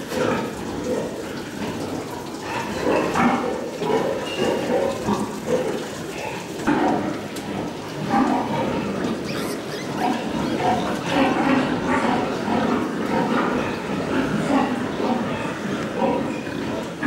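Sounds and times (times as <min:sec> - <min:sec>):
pigs grunting: 0:00.0 - 0:17.0.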